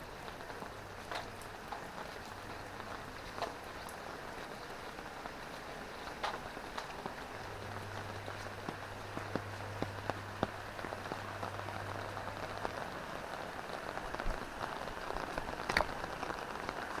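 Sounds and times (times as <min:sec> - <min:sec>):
drizzling rain: 0:00.0 - 0:17.0
raindrop ticks: 0:00.0 - 0:17.0.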